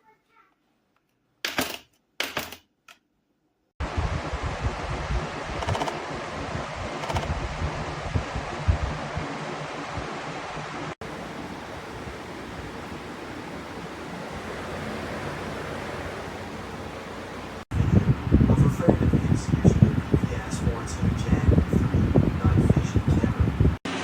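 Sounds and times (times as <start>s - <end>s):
air buffeting the microphone: 3.8s - 24.0s
box fan running: 3.8s - 24.0s.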